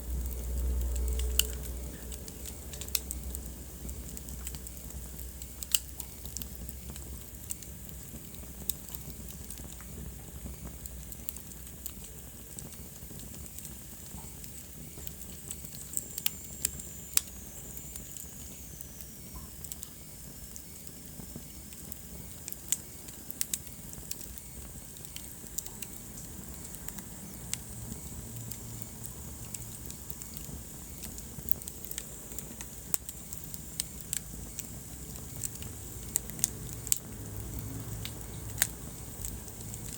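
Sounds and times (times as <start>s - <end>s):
fire pops and snaps: 0.0s - 39.9s
wood fire hissing: 0.0s - 39.9s.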